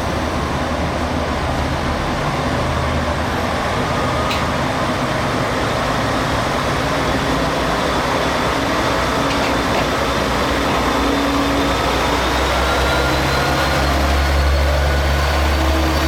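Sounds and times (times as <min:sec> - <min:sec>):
train rumble and hum: 0:00.0 - 0:16.0.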